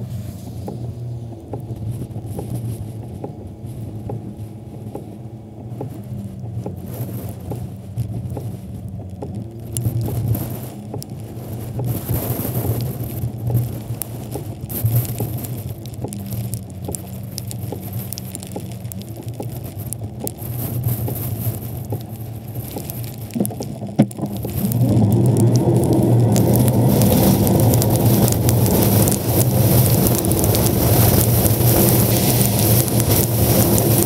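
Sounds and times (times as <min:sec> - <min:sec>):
raindrops pattering: 0:00.0 - 0:34.0
storm wind on microphone: 0:05.4 - 0:34.0.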